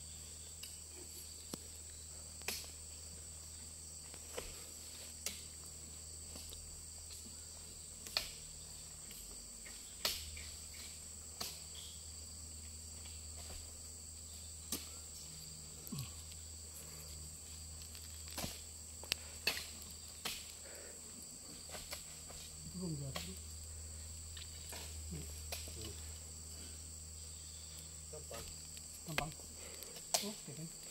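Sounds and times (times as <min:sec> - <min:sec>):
insects chirring: 0:00.0 - 0:30.9.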